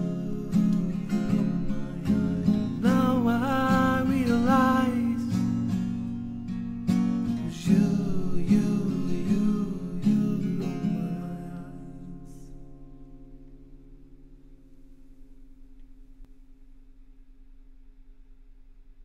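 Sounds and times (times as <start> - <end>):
acoustic guitar strumming: 0.0 - 16.1.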